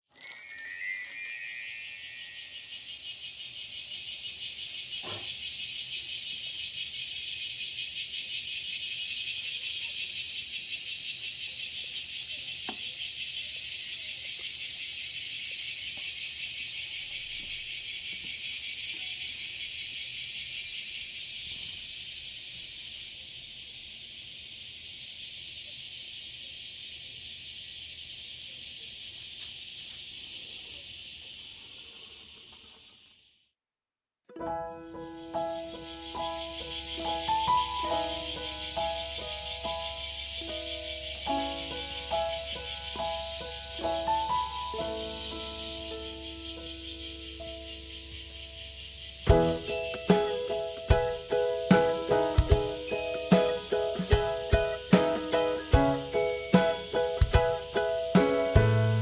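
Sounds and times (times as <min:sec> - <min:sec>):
cicadas singing: 0:01.1 - 0:33.2, 0:34.8 - 0:59.0.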